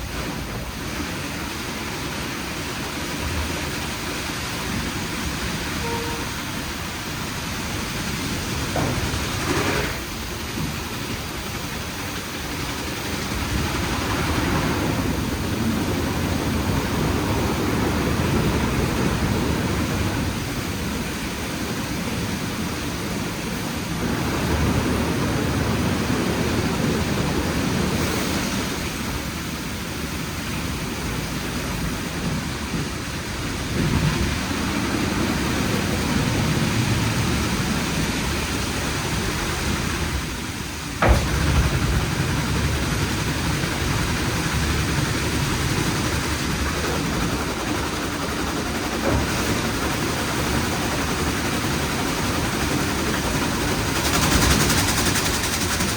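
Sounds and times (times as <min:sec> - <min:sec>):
car wash machine rushing: 0:00.0 - 0:55.9.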